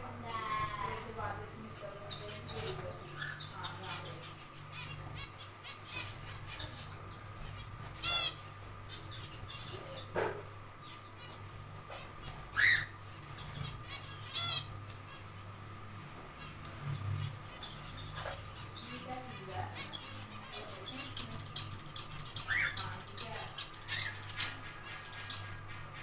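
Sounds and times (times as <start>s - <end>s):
finches chirping softly: 0.1s - 10.2s, 10.8s - 15.4s, 16.4s - 26.0s
loud nasal finch calls: 0.2s - 10.2s, 10.8s - 15.6s, 16.4s - 26.0s.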